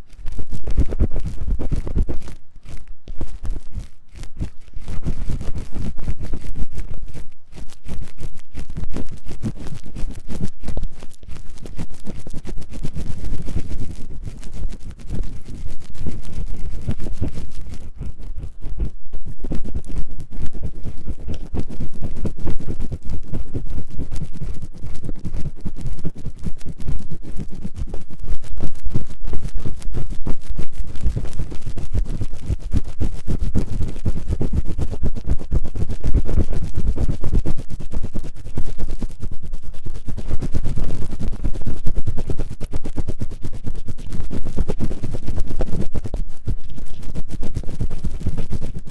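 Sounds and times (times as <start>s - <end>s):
tool scratching inside microphone ear: 0.0s - 48.9s.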